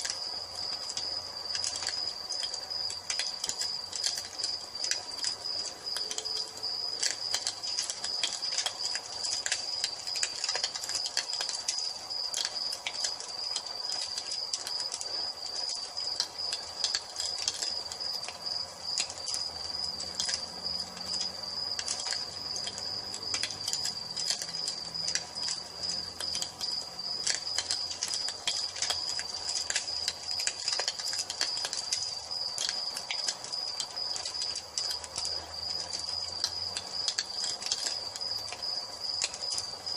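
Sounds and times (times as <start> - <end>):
crickets chirring: 0.0 - 39.9
wood fire crackling and popping: 0.0 - 39.9.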